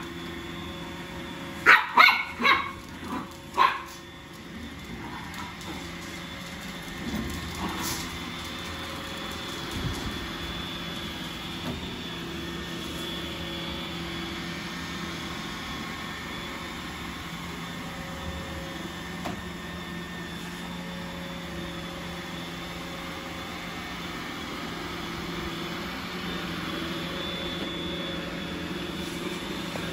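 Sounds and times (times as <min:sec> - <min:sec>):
robot vacuum whirring: 0:00.0 - 0:29.9.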